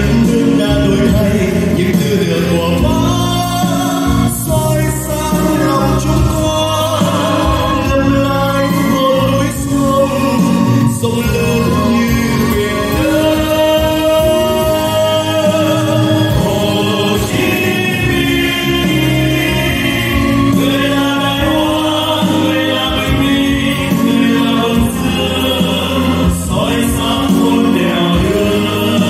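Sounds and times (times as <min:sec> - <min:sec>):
choir singing: 0:00.0 - 0:29.0
instrumental accompaniment: 0:00.0 - 0:29.0.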